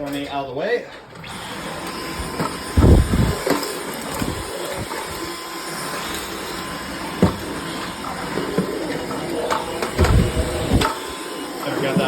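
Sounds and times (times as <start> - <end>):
cordless vacuum running: 1.2 - 12.0.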